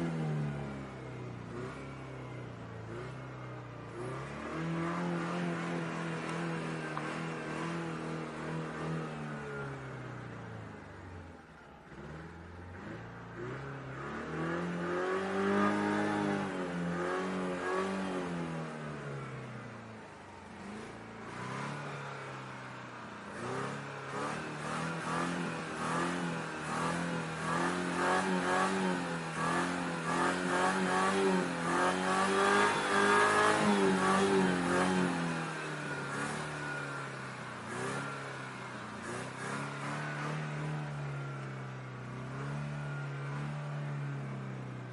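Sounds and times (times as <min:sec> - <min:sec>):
car engine revving: 0:00.0 - 0:19.4, 0:20.3 - 0:44.2.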